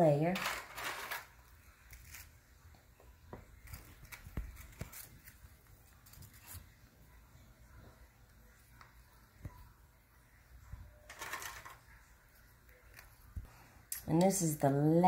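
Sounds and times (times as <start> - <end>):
faint rustling of cookies: 0.3 - 13.9.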